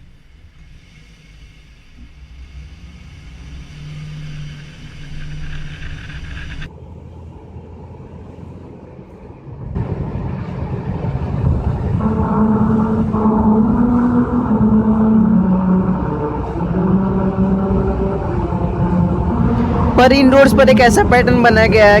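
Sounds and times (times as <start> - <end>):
car tyres road noise: 0.0 - 22.0
tyres humming a tune on grooved road: 0.0 - 22.0.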